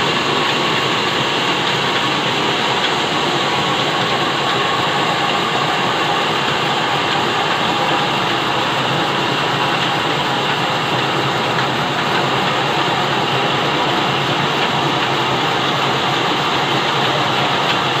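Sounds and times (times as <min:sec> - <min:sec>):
stationary engine humming: 0:00.0 - 0:18.0.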